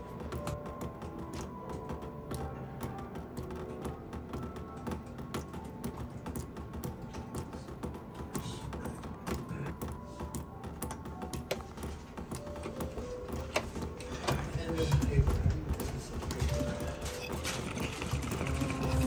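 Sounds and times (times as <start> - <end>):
background music: 0.0 - 19.0
keyboard typing clicks: 0.0 - 19.0.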